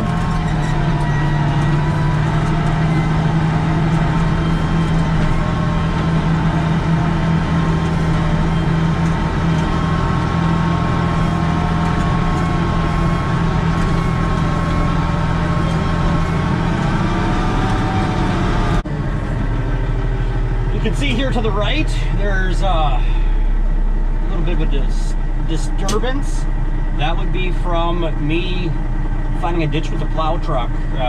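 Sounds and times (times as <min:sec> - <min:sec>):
diesel engine running under load: 0:00.0 - 0:31.0.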